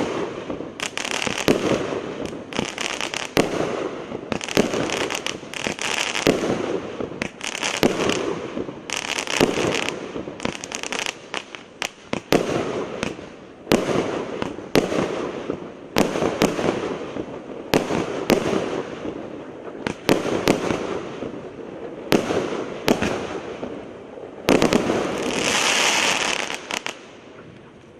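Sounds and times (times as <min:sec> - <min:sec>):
firework bangs: 0:00.0 - 0:27.5
firework crackling: 0:00.0 - 0:27.9.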